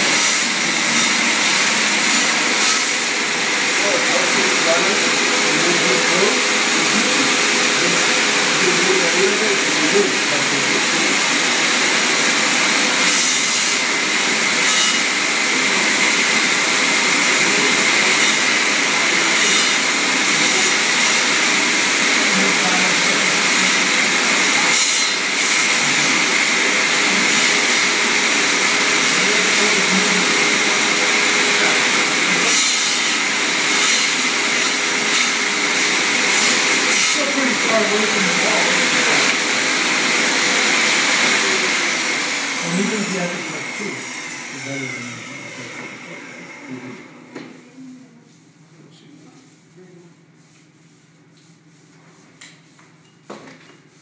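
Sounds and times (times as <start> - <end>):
machine motor whirring: 0.0 - 47.4.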